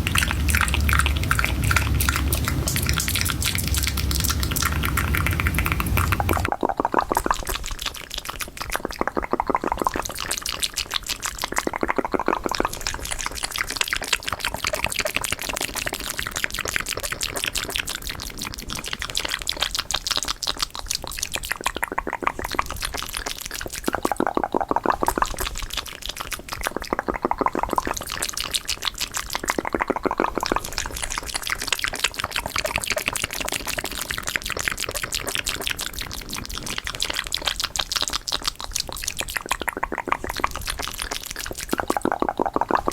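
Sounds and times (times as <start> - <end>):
wet mouth clicks and smacks: 0.0 - 42.9.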